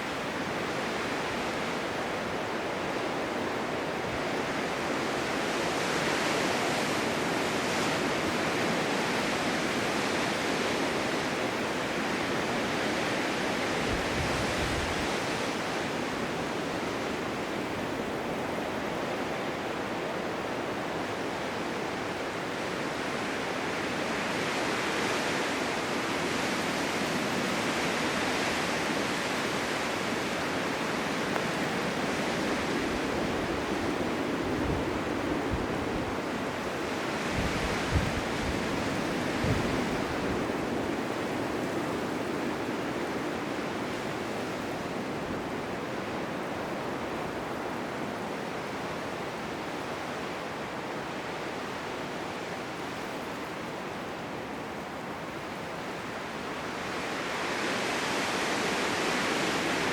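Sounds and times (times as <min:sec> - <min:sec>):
blizzard wind rushing hiss: 0:00.0 - 0:59.9.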